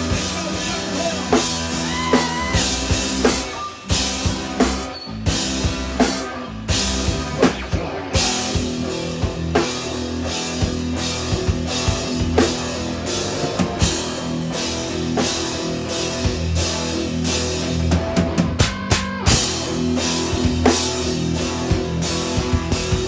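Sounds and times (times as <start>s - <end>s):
drum kit hits: 0.0s - 23.0s
guitar and bass: 0.0s - 23.0s.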